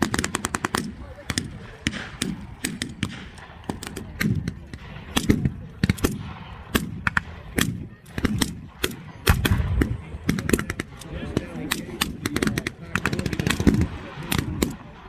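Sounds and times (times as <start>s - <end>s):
blank gunshots: 0.0s - 15.0s.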